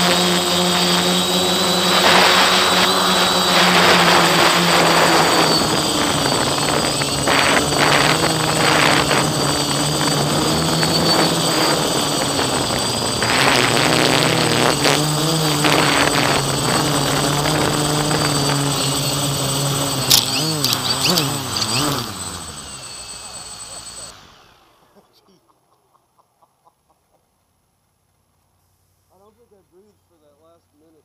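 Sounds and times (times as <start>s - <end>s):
drone motors buzzing: 0.0s - 25.2s.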